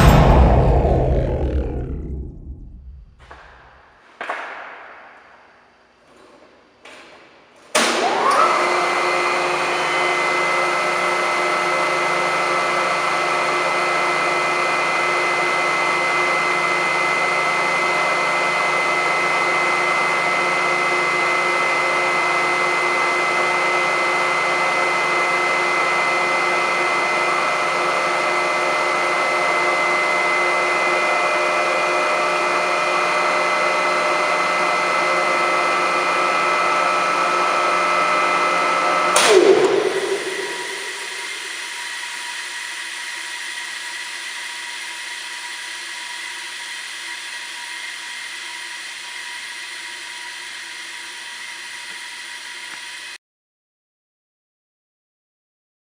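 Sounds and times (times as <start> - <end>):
air compressor running: 7.7 - 53.2.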